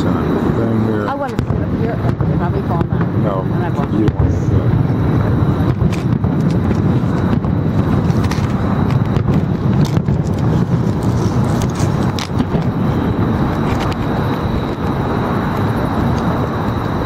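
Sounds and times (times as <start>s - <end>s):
loud outdoor rumble: 0.0s - 17.0s.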